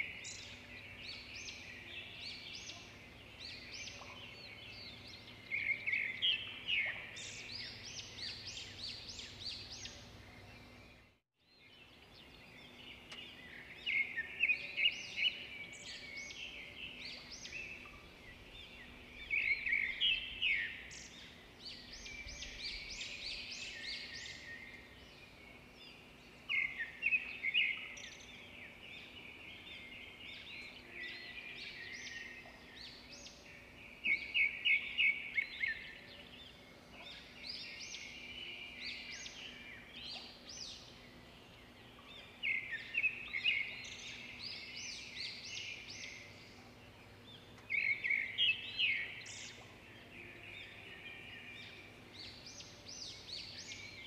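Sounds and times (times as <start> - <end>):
birds chirping and twittering: 0.0 - 54.0.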